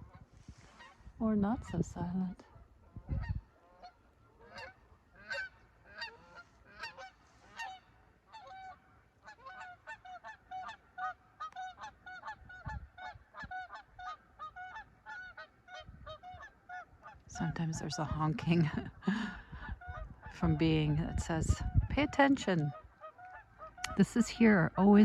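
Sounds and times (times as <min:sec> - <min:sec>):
geese honking: 0:00.0 - 0:01.8, 0:02.5 - 0:25.0.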